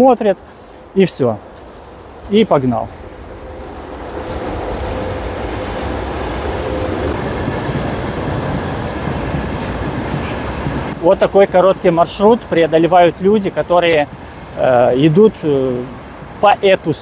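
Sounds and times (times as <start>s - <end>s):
train wheels on rails: 0.3s - 16.9s.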